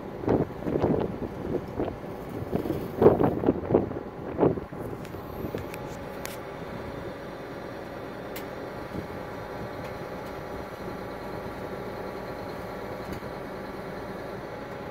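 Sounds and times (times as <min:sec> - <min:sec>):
steady mechanical hum: 0:00.0 - 0:14.9.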